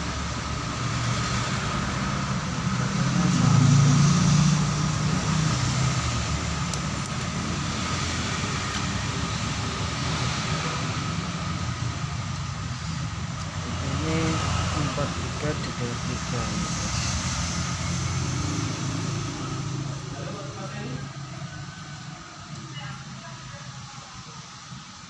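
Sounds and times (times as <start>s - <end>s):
vehicle passing: 0.0s - 23.4s
road traffic rumble: 0.0s - 25.0s.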